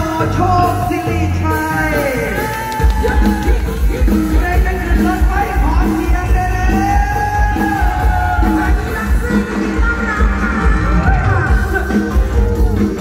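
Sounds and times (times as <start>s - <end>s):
heavy bass beat: 0.0s - 13.0s.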